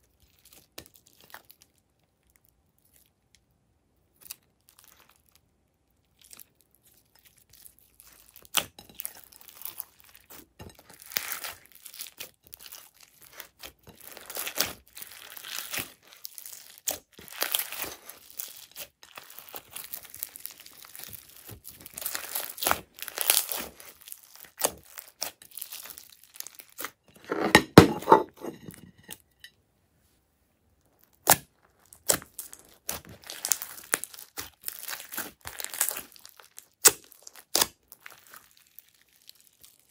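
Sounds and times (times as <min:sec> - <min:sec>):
slime crackling and popping: 0:04.1 - 0:27.0, 0:30.8 - 0:39.9.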